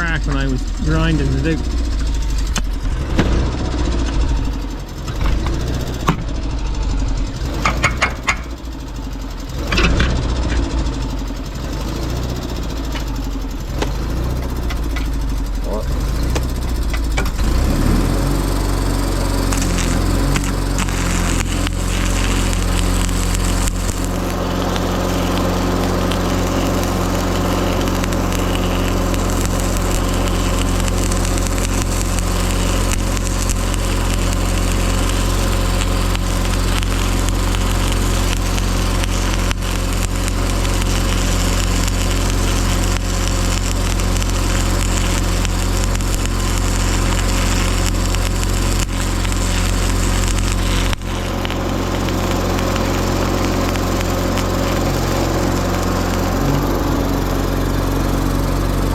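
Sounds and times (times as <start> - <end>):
welder engine humming: 0.0 - 58.9
welding arc crackling: 0.0 - 58.9.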